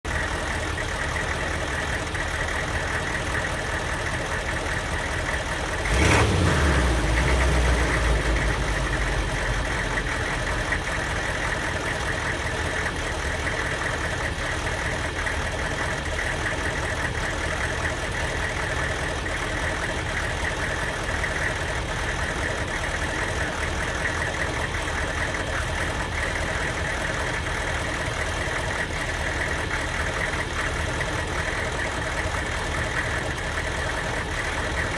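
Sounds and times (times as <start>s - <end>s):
diesel engine idling with misfire: 0.0s - 34.9s.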